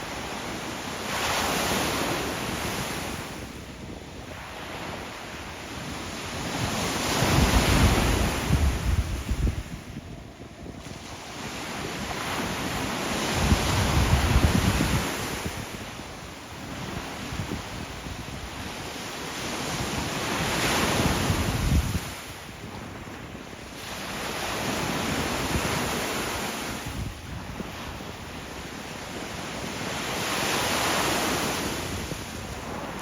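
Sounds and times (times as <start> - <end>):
deep rumble of waves: 0.0 - 33.0
sea waves breaking: 0.0 - 33.0
wind buffeting microphone: 0.0 - 33.0.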